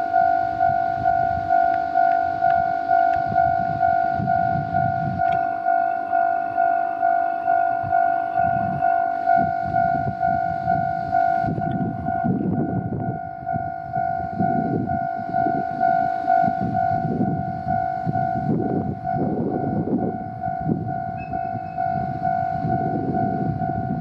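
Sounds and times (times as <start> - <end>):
railroad crossing bell ringing: 0.0 - 24.0
train rumbling: 0.0 - 24.0.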